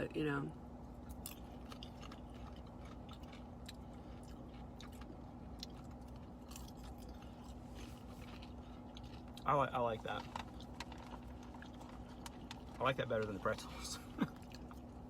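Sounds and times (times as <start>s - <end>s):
people chewing popcorn: 1.0s - 15.0s.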